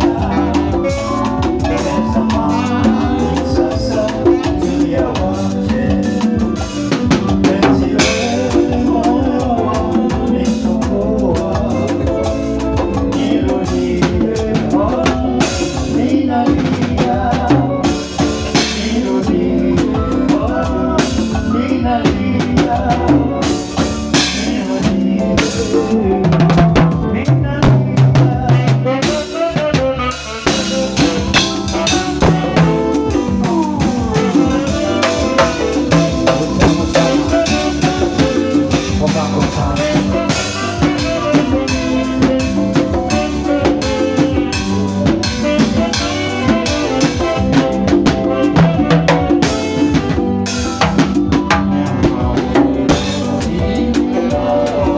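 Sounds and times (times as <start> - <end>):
drum kit playing: 0.0 - 54.9.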